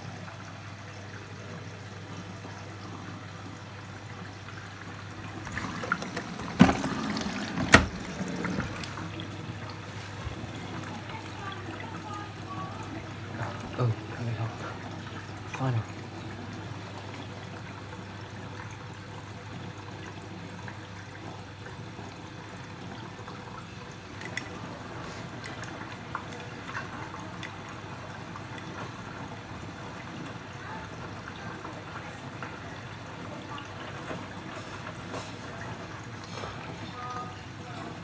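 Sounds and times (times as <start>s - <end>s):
washing machine hum: 0.0s - 38.0s
water sloshing in washing machine: 0.0s - 38.0s.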